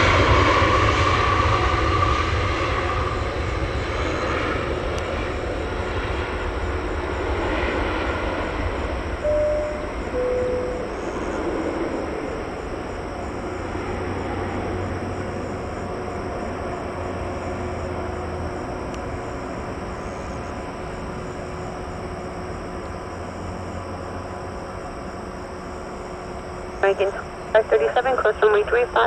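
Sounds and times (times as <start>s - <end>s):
jet engine rush: 0.0s - 29.0s.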